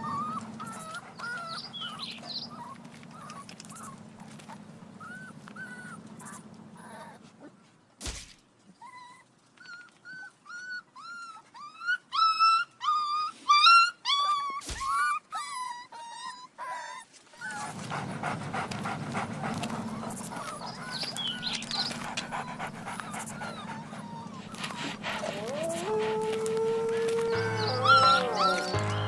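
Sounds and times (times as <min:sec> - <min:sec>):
puppy whining: 0:00.0 - 0:07.6, 0:08.7 - 0:29.0.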